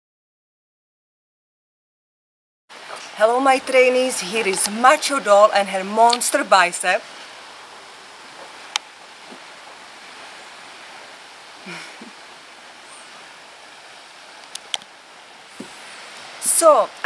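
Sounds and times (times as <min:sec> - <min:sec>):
sea wash: 0:02.7 - 0:17.0.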